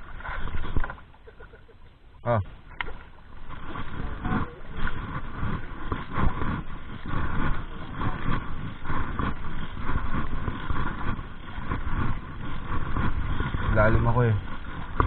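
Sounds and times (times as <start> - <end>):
sea noise: 0.0 - 15.0
wind gusts: 0.0 - 15.0.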